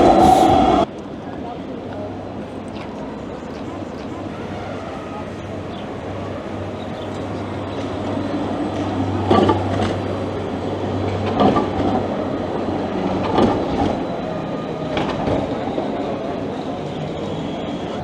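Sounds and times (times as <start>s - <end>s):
tram running on rails: 0.0s - 18.0s
wheels clunking over rail joints: 1.8s - 16.6s.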